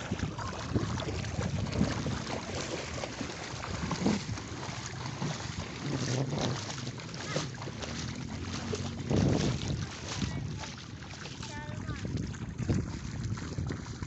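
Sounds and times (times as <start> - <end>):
surf: 0.0 - 14.0
wind rumbling on microphone: 0.0 - 14.0.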